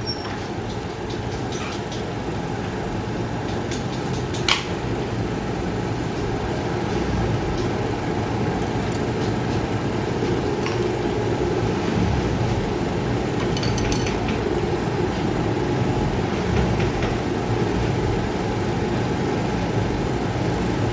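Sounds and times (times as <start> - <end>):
steady machine noise: 0.0 - 20.9.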